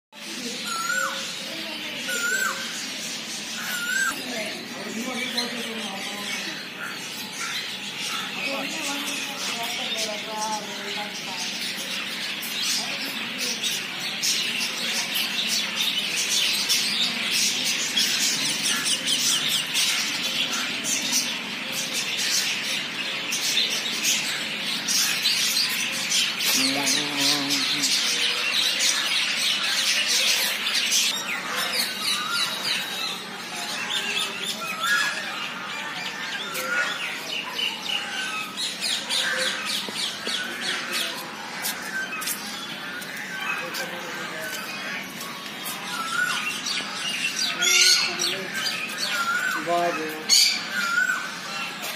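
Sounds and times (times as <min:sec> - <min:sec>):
caged birds chirping and squawking: 0:00.2 - 0:51.9
budgerigars chattering: 0:00.3 - 0:51.9.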